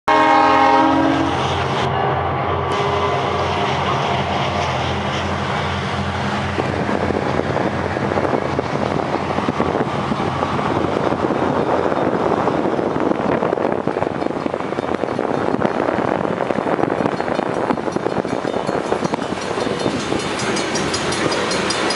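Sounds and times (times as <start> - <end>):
freight cars rumbling on rails: 0.1 - 21.9
train engine drone: 0.1 - 21.9.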